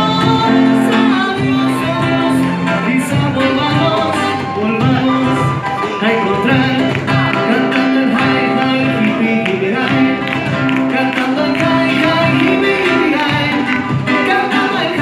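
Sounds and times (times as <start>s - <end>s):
live latin band: 0.0s - 15.0s
percussion beat: 0.0s - 15.0s
plucked guitar: 0.0s - 15.0s.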